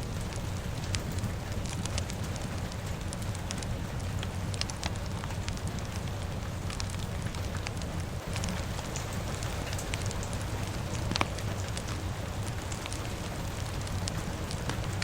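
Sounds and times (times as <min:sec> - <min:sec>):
fire crackling and popping: 0:00.0 - 0:15.0
rain hissing: 0:00.0 - 0:15.0.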